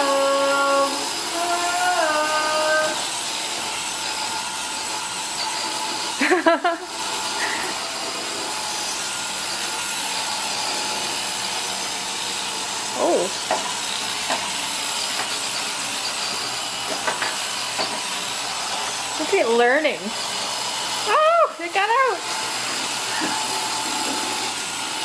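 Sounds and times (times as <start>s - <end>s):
robot vacuum whirring: 0.0s - 25.0s.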